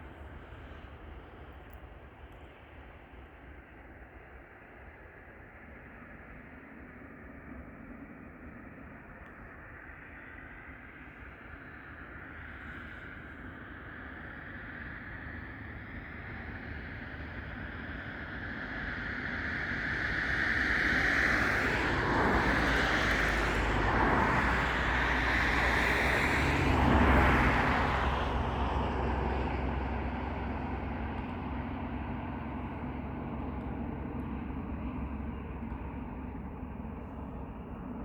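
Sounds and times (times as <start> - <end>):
airliner engines whining: 5.1 - 38.0.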